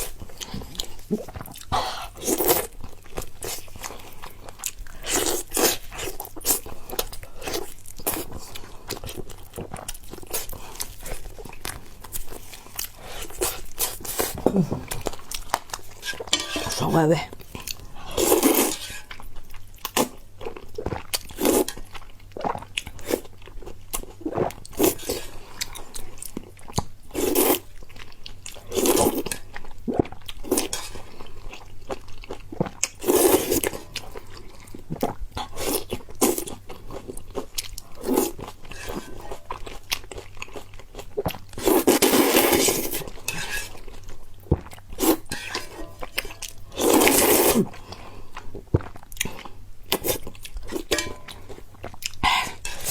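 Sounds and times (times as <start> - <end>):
person chewing crunchy food: 0.0 - 52.9.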